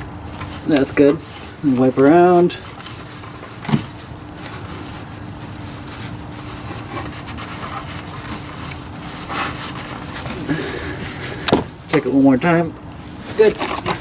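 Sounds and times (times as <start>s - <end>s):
faint steady hum: 0.0s - 14.0s
rag rubbing and wiping: 0.2s - 11.5s.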